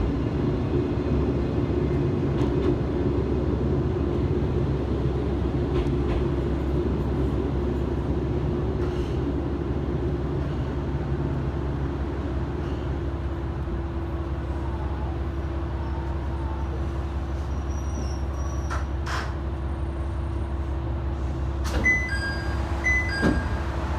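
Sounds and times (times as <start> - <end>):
train engine rumble: 0.0 - 23.9.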